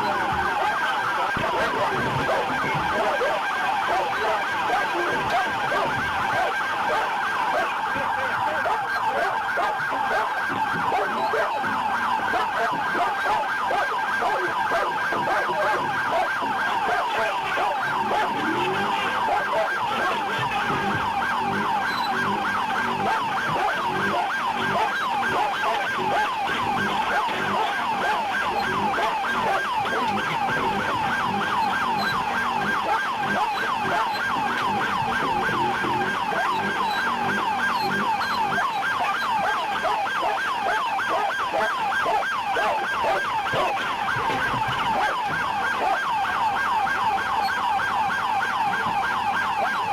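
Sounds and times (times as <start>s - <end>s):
police siren yelping: 0.0s - 49.9s.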